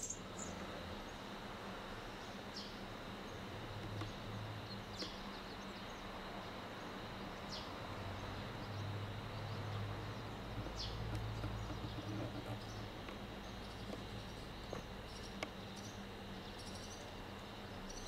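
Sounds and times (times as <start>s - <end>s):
electric train equipment hum: 0.0s - 18.0s
high insect drone: 0.0s - 18.0s.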